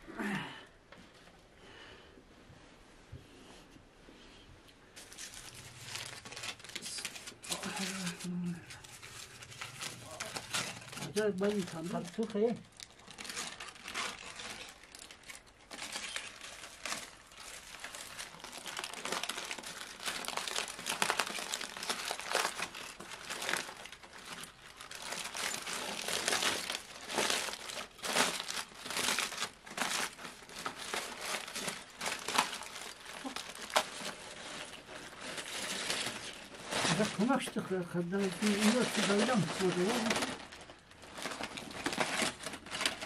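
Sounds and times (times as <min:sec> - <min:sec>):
aluminium foil crinkling: 0:04.9 - 0:43.0.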